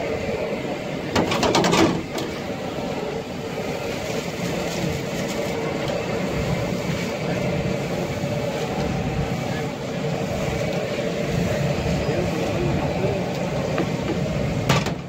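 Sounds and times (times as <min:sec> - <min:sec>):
oil sizzling and bubbling: 0:00.0 - 0:15.0.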